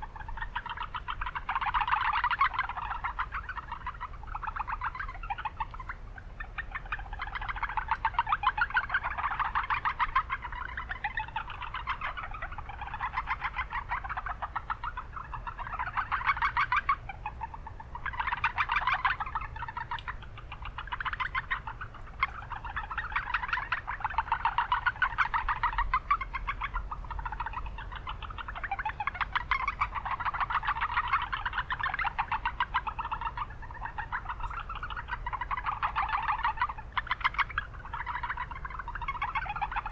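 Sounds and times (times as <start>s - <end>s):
frogs calling in chorus: 0.0s - 39.9s
low rumble of town noise: 0.0s - 39.9s.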